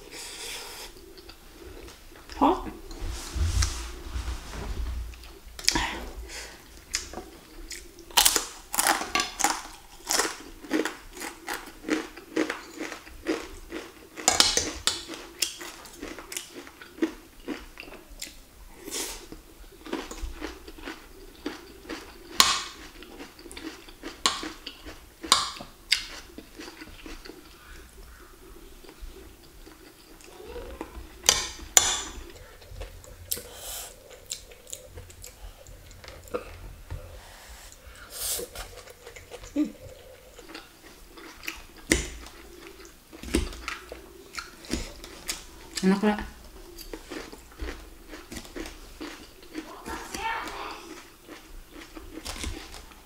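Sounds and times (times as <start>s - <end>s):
chewing and crunching food: 0.0s - 3.0s, 5.2s - 53.0s.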